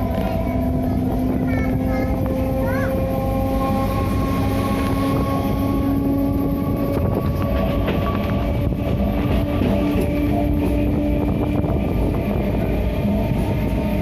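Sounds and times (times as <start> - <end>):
locomotive humming tones: 0.0 - 14.0
train rumbling: 0.0 - 14.0
wheels and couplings clanking: 2.2 - 14.0.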